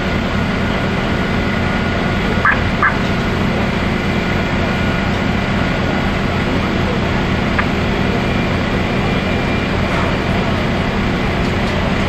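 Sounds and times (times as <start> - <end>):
diesel engines and pumps droning: 0.0 - 12.0.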